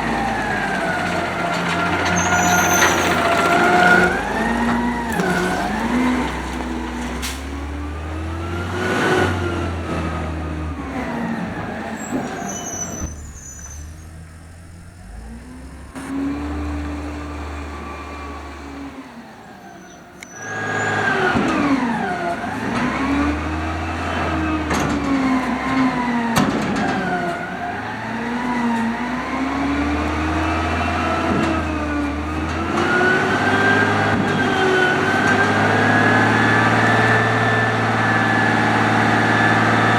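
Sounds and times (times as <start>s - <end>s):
garbage truck engine revving: 0.0s - 39.9s.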